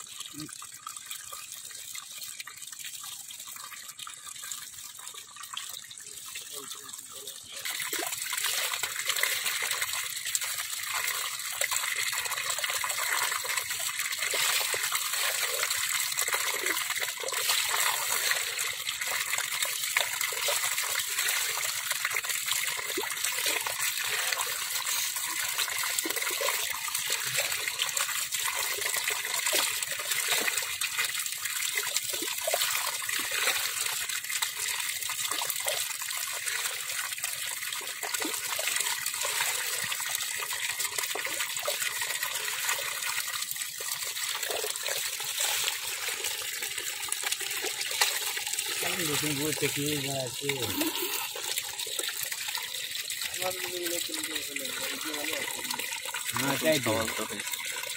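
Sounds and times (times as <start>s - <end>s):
water gushing: 0.0s - 57.9s.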